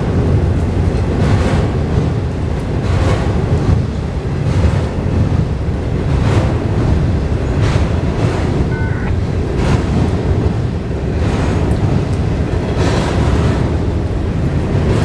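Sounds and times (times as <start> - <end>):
train wheels rumbling on rail: 0.0 - 15.0
wheels clattering over rail joints: 0.0 - 15.0.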